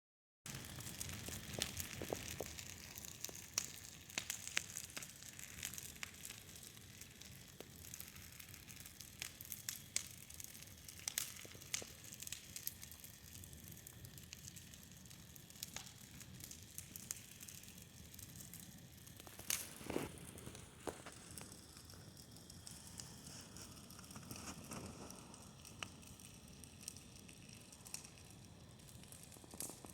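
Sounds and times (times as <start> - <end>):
bonfire crackling and popping: 0.5 - 29.9.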